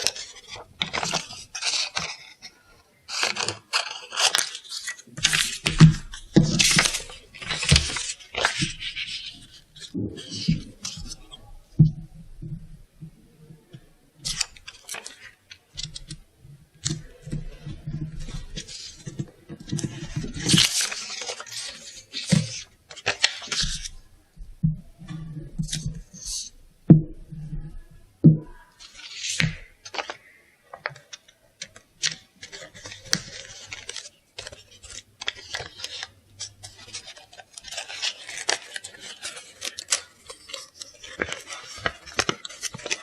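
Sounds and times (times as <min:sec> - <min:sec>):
paper rustling and tearing: 0:00.0 - 0:11.6, 0:14.2 - 0:16.2, 0:16.8 - 0:24.0, 0:25.1 - 0:26.6, 0:28.8 - 0:43.0.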